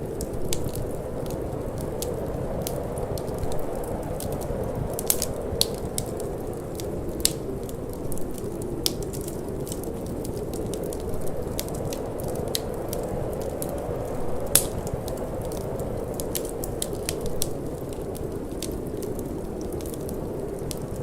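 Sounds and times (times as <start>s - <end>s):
low wind rush: 0.0s - 21.0s
wood fire crackling: 0.0s - 21.0s.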